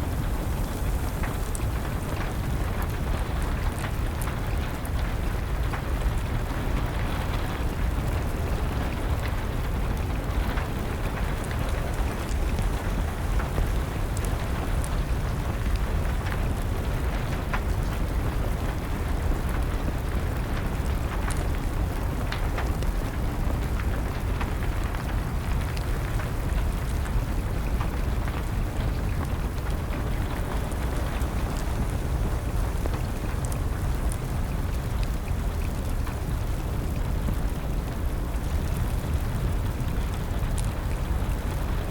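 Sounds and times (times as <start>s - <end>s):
steady rain patter: 0.0s - 41.9s
wood fire crackling: 0.0s - 41.9s.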